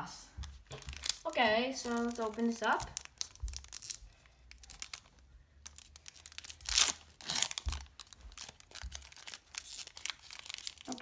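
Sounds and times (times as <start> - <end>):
foil wrapper tearing and crinkling: 0.7 - 11.0.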